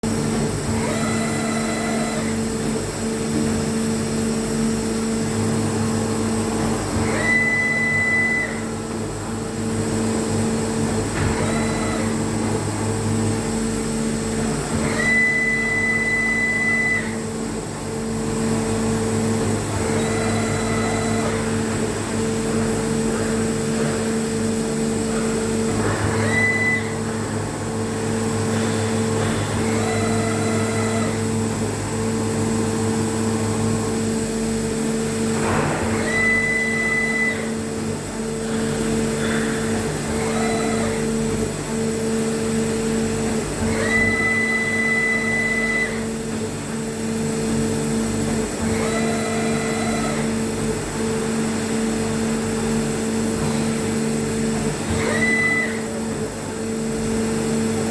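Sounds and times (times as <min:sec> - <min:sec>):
electric motor and pump hum: 0:00.0 - 0:57.9.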